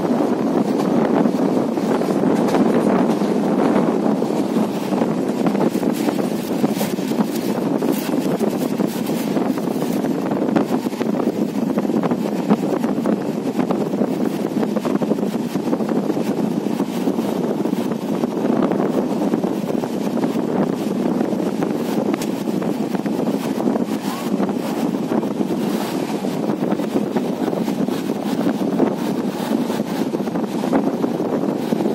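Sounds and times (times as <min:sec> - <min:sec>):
train running noise: 0:00.0 - 0:31.9
wind rushing over microphone: 0:00.0 - 0:31.9.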